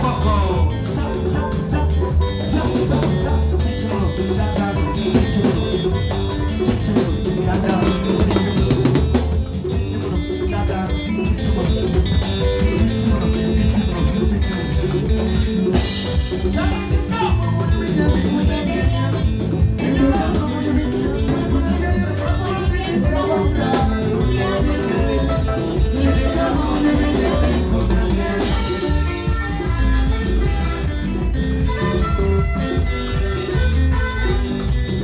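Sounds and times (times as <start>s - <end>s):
drum kit with cymbals: 0.0s - 35.0s
electric bass line: 0.0s - 35.0s.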